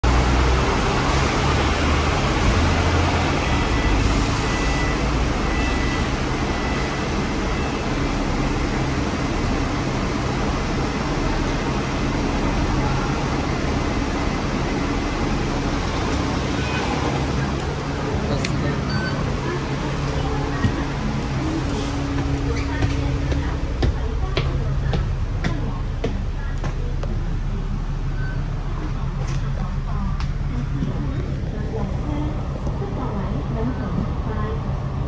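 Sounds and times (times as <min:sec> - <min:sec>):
bus engine rumble: 0:00.0 - 0:35.0
road and cabin noise: 0:00.0 - 0:35.0.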